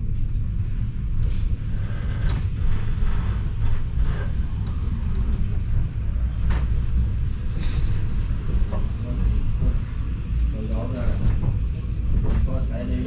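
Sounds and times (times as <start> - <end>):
tram running rumble: 0.0 - 13.0.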